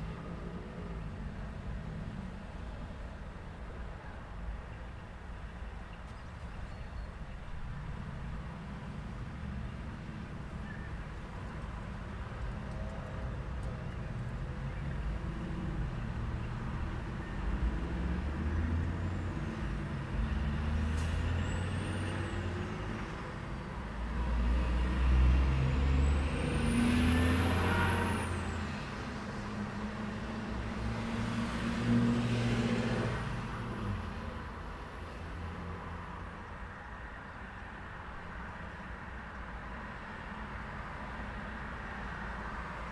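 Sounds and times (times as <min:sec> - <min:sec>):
cars and trucks passing: 0:00.0 - 0:42.9.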